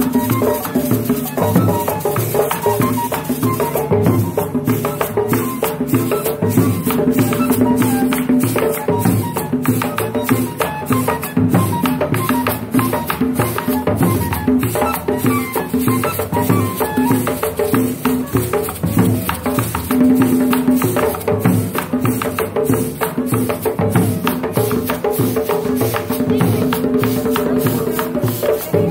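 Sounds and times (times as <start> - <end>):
drums struck with sticks and hands: 0.0 - 28.9
shakers rattling: 0.0 - 28.9.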